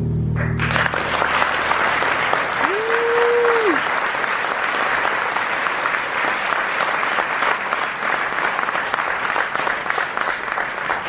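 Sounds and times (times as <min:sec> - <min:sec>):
audience applauding: 0:00.6 - 0:11.0.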